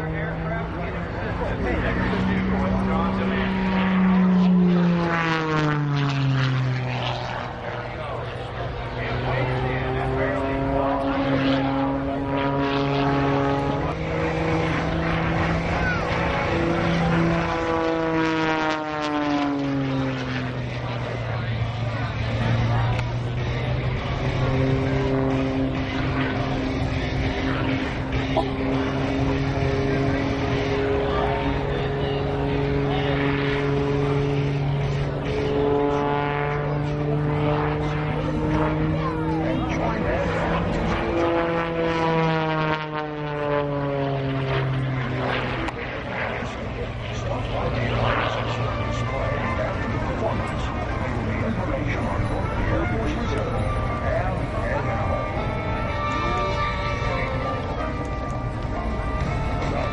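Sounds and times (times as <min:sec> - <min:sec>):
propeller plane engine overhead: 0:00.0 - 0:59.9.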